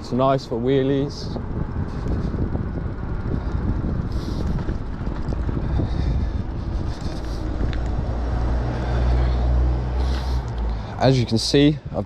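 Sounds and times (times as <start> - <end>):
low rumble: 0.0 - 11.0
wind buffeting microphone: 0.0 - 12.0.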